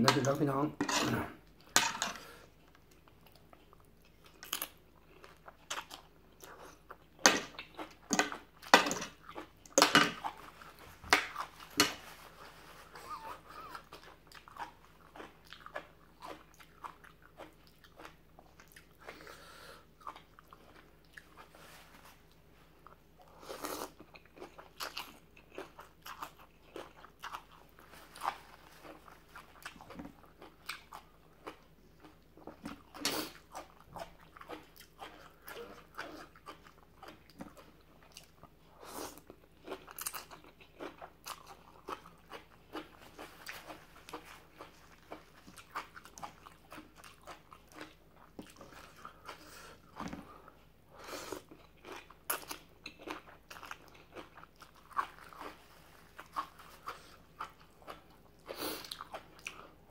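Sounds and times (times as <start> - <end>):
person chewing and crunching: 1.0 - 59.9.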